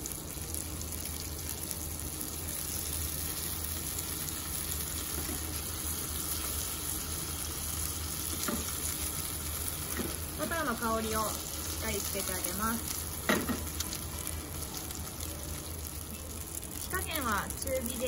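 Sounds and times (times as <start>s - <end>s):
butter sizzling in a frying pan: 0.0s - 18.0s.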